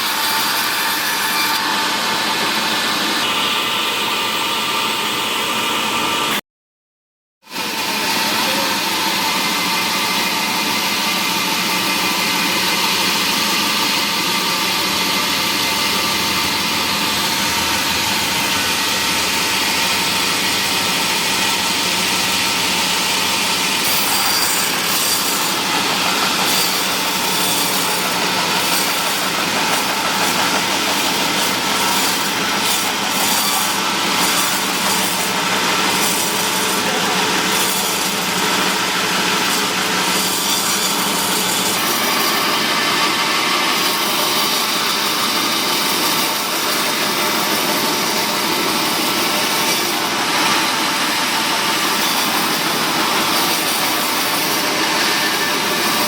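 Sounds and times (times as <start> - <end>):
saw blade cutting wood: 0.0 - 6.4, 7.5 - 56.0
saw motor humming: 0.0 - 6.4, 7.5 - 56.0.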